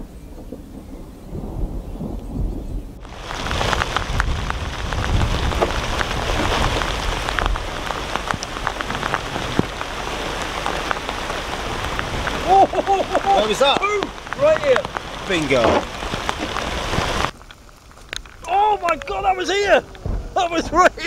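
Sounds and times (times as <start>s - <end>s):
heavy rain: 0.0s - 21.0s
raindrops ticking close: 0.0s - 21.0s
thunder rumbling: 0.0s - 21.0s.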